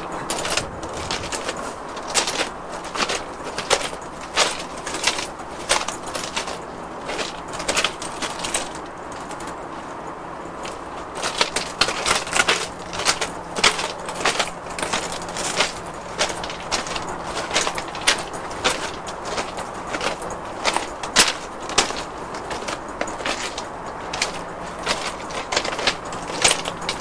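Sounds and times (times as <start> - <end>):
footsteps crunching on ballast: 0.0 - 27.0.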